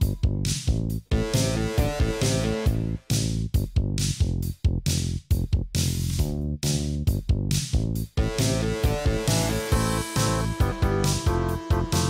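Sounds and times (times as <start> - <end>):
instrumental music with a beat: 0.0 - 12.0.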